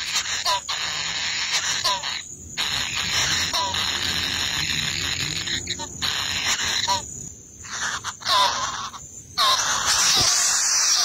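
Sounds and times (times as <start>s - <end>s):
nestlings begging chatter: 0.0s - 11.0s.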